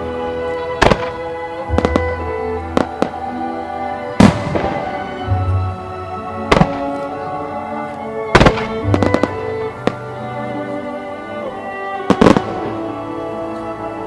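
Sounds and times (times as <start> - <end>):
fireworks bursting: 0.0 - 14.0
music track: 0.0 - 14.0.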